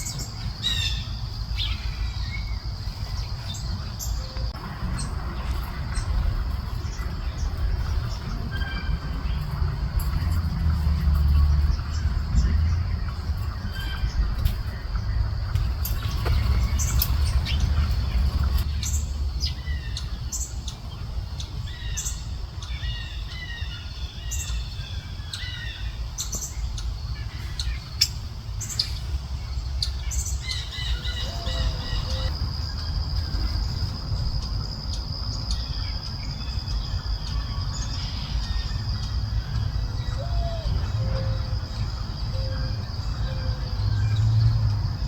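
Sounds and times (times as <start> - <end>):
birds chirping in trills: 0.0 - 45.0
steady low rumble: 0.0 - 45.0.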